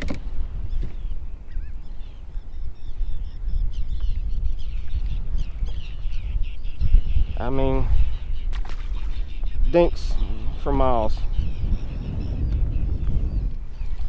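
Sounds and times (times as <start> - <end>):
birds calling: 0.0 - 14.0
wind buffeting microphone: 0.0 - 14.0.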